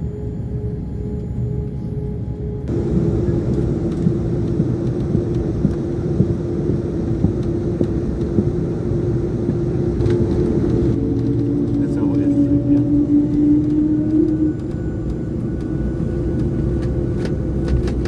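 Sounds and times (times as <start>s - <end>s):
jet engine cabin hum: 2.6s - 18.0s.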